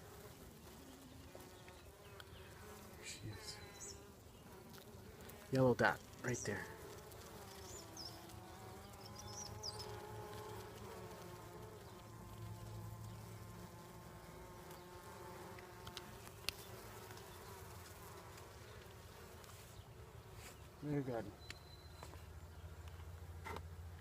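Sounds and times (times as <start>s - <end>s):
bees buzzing: 0.0s - 21.1s.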